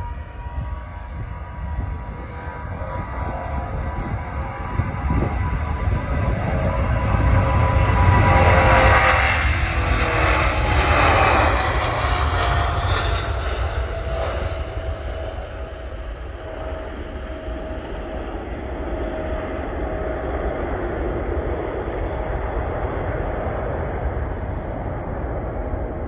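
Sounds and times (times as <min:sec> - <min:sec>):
jet engines at takeoff: 0:00.0 - 0:26.0.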